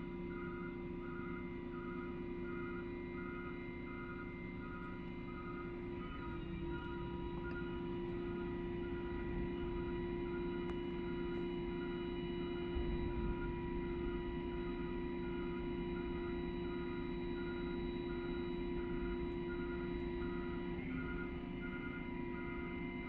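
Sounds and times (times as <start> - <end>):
mechanical hum: 0.0 - 23.0
pulsing faint tone: 0.0 - 23.0.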